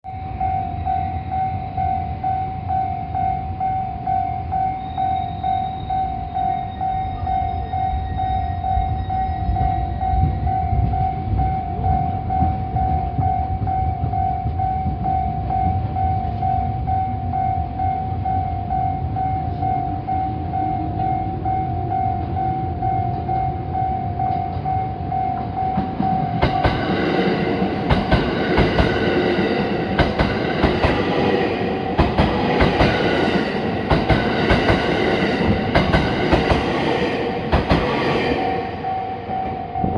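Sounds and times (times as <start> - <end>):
electric train rumbling: 0.0 - 39.9
level crossing warning bell: 0.0 - 39.9.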